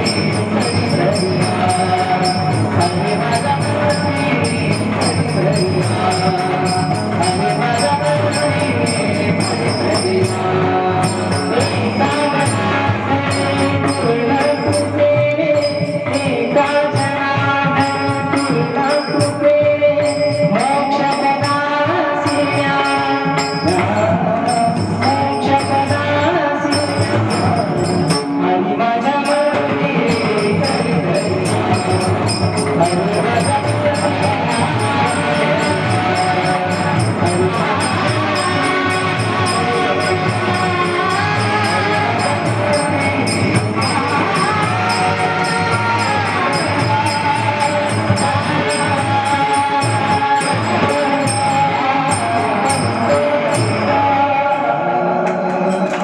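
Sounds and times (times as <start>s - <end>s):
devotional song melody: 0.0s - 56.0s
jingling hand percussion: 0.0s - 56.0s.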